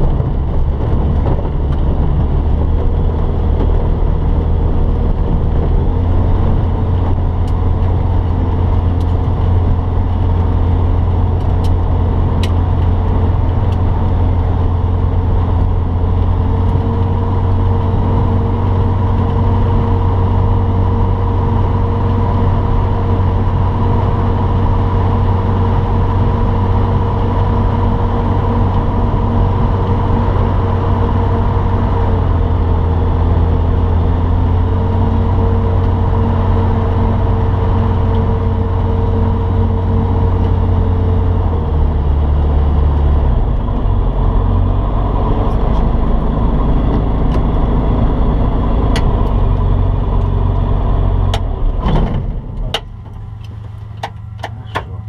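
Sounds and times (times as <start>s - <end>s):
propeller engine low drone: 0.0s - 55.0s.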